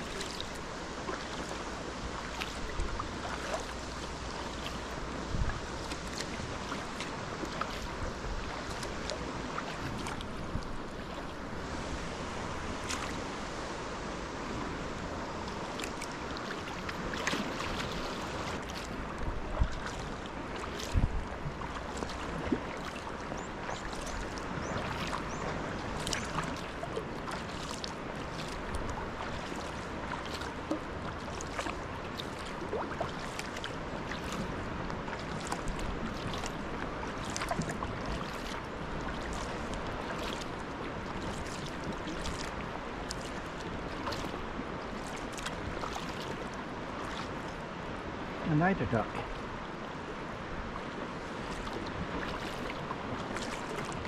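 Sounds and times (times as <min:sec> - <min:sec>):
paddle dipping and splashing: 0:00.0 - 0:54.0
water lapping along hull: 0:00.0 - 0:54.0.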